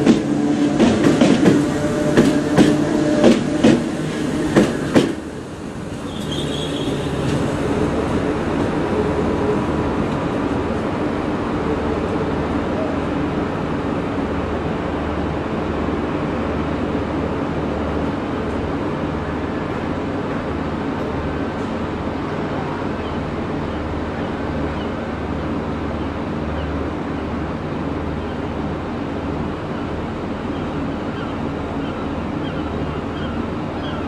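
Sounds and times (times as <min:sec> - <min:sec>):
electric train rumble and hiss: 0:00.0 - 0:34.0.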